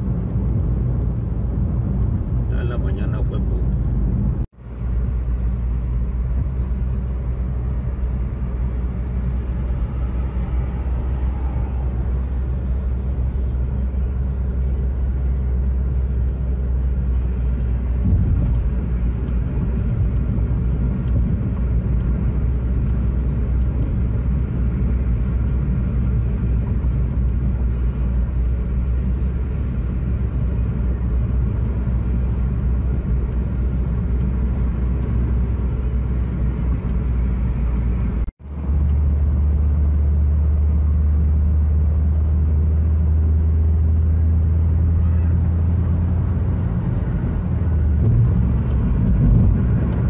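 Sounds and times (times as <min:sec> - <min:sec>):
car road noise rumble: 0:00.0 - 0:50.0.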